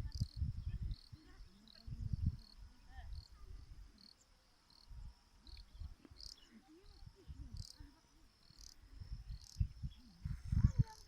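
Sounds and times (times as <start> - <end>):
crickets chirping: 0.0 - 11.0
faint steady insect trill: 0.0 - 11.0.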